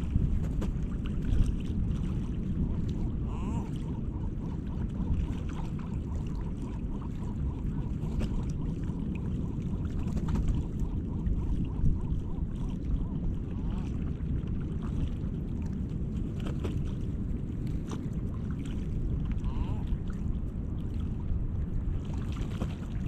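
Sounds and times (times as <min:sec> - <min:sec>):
light water splashes: 0:00.0 - 0:23.0
wind buffeting microphone: 0:00.0 - 0:23.0.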